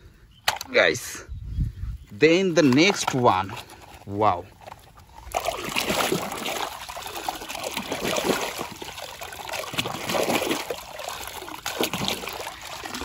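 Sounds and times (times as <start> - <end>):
water splashing and sloshing: 2.5 - 13.0.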